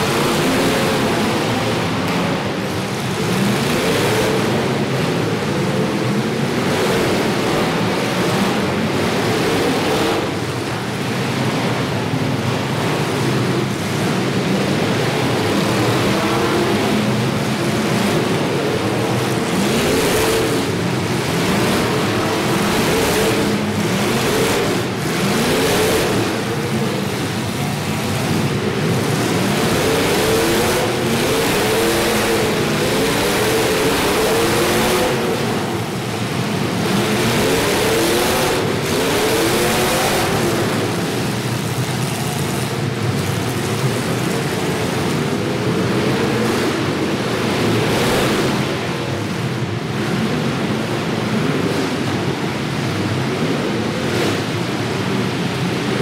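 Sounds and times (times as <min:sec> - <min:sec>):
car engines revving: 0:00.0 - 0:56.0
steady rushing noise: 0:00.0 - 0:56.0.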